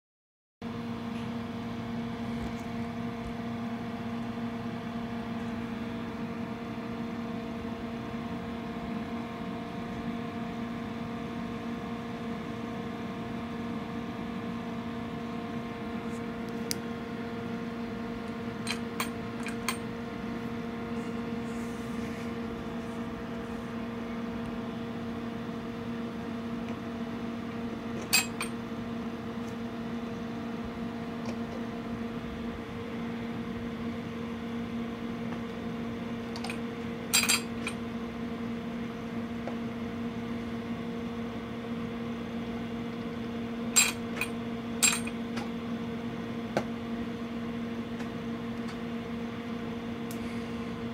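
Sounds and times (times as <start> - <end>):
low electrical hum: 0.6 - 50.9.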